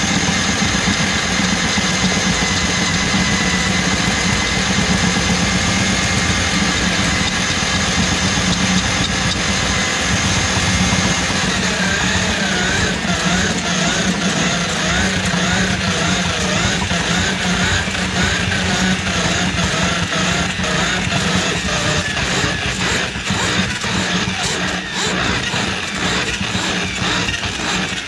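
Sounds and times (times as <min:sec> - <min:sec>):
drain auger motor hum: 0:00.0 - 0:28.0.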